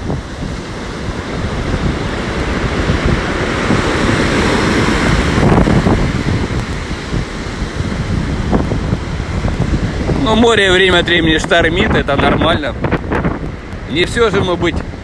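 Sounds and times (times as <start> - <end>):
heavy wave breaking: 0.0 - 15.0
wind buffeting microphone: 0.0 - 15.0.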